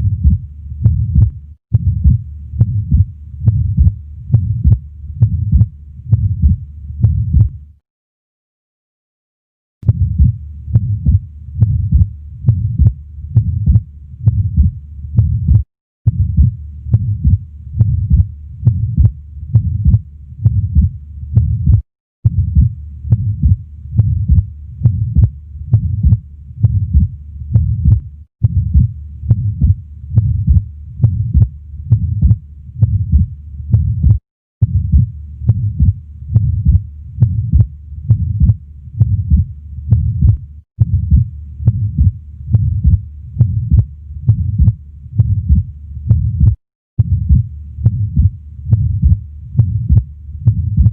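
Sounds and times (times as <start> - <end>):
heartbeat with murmur: 0.0 - 7.6, 9.8 - 50.9.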